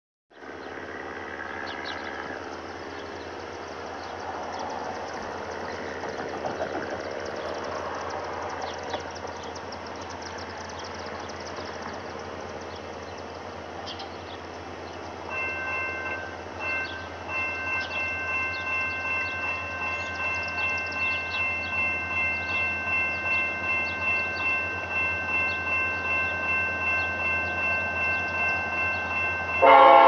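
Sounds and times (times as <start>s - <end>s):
diesel train engine rumbling: 0.3s - 30.0s.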